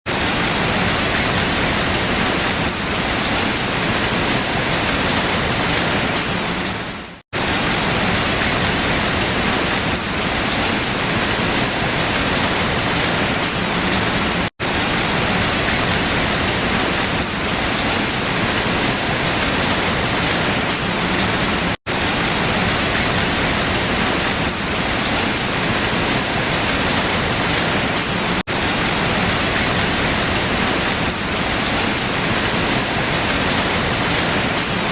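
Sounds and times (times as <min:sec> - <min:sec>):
rain falling on leaves: 0:00.1 - 0:34.9.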